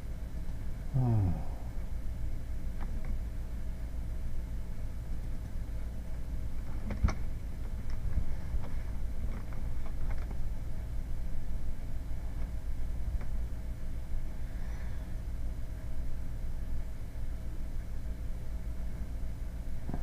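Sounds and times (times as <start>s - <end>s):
low computer hum: 0.0s - 20.0s.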